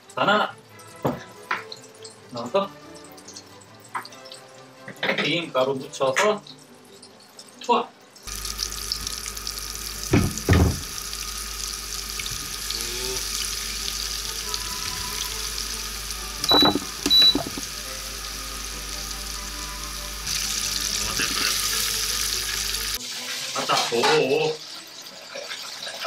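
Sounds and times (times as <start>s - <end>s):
oil sizzling and bubbling: 0.0s - 26.0s.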